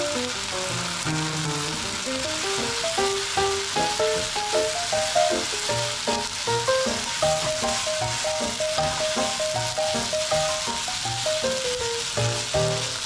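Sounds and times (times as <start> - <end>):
food sizzling in oil in a pan: 0.0 - 13.0
chopsticks stirring food: 1.8 - 13.0.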